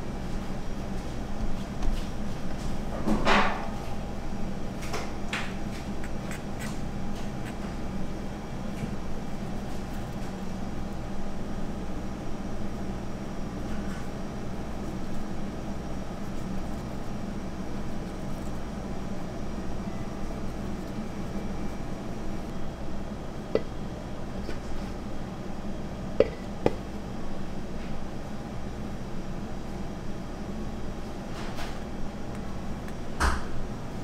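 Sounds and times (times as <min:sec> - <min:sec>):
machine humming: 0:03.8 - 0:34.0.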